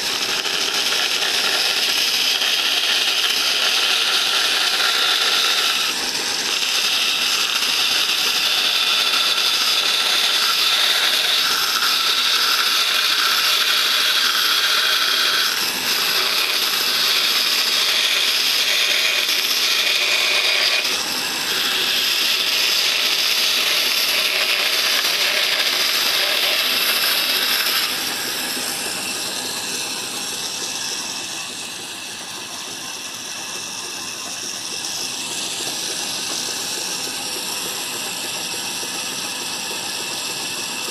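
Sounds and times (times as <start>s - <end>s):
bandsaw cutting wood: 0.0s - 40.9s.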